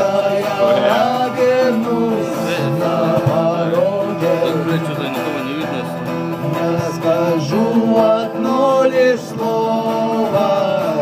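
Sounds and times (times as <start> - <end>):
acoustic guitar strumming: 0.0 - 11.0
person singing: 0.0 - 11.0.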